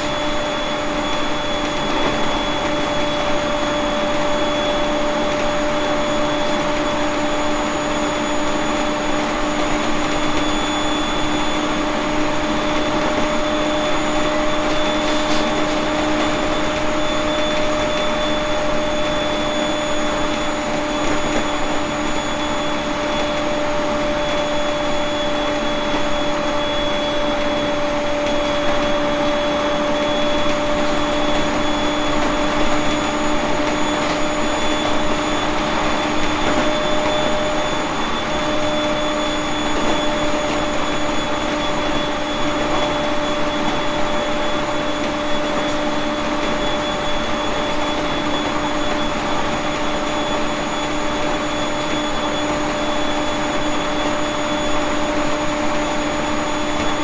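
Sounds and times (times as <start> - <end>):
steady whining tones: 0.0 - 57.0.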